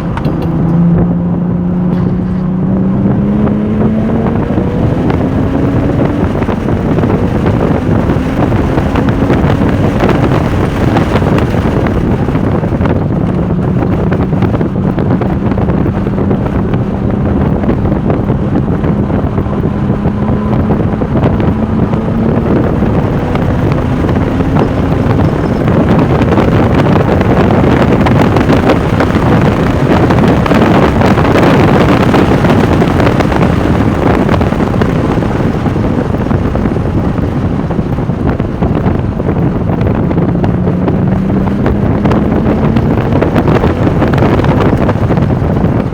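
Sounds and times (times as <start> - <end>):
car engine at speed: 0.0 - 45.9
wind buffeting on microphone: 0.0 - 45.9.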